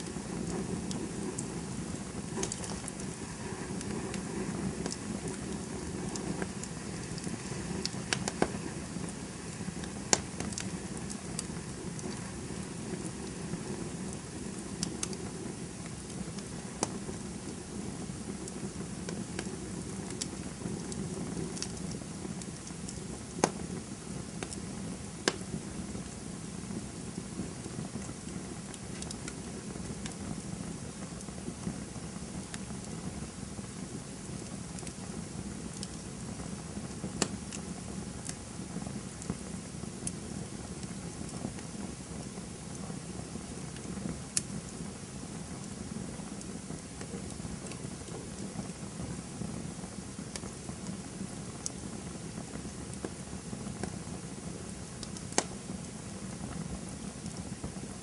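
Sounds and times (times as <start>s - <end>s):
campfire flames hissing: 0.0s - 58.0s
fire crackles and pops: 0.0s - 58.0s.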